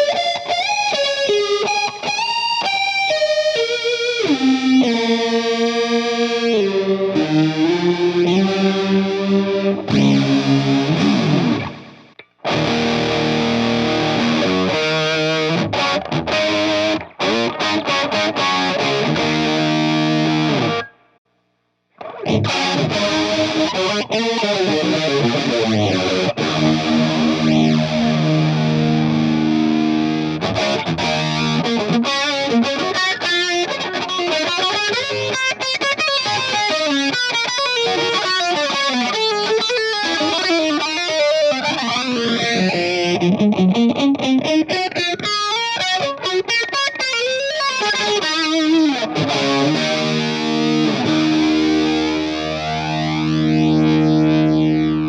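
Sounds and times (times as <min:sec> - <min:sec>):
distorted electric guitar with flanger: 0:00.0 - 0:21.2, 0:21.9 - 0:55.0.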